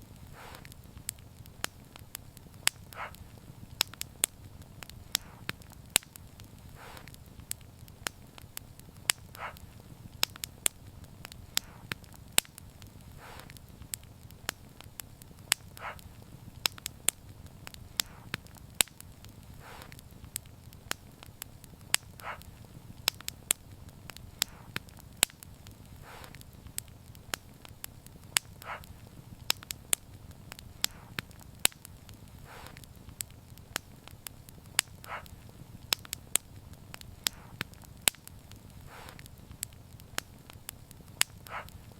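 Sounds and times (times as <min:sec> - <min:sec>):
soft hisses: 0:00.0 - 0:40.9
low rumble of flame: 0:00.0 - 0:41.9
sharp pops of fire: 0:00.0 - 0:41.9
wood fire crackling: 0:00.0 - 0:41.9.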